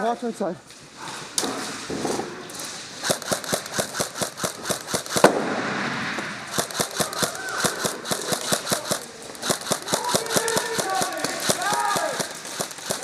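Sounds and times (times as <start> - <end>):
airsoft guns firing: 1.4 - 13.0.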